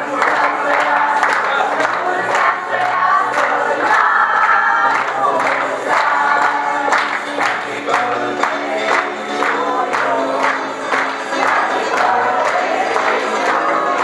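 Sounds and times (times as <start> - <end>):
loud music with voices singing: 0.0 - 14.0
people clapping in time: 0.0 - 14.0.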